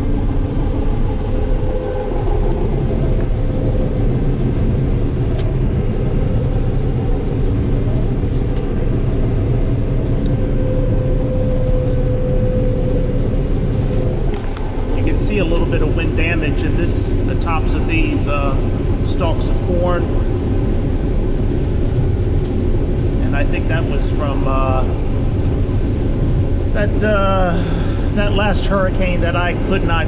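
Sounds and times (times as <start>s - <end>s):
combine engine rumble: 0.0s - 30.0s
machinery whine: 0.0s - 30.0s.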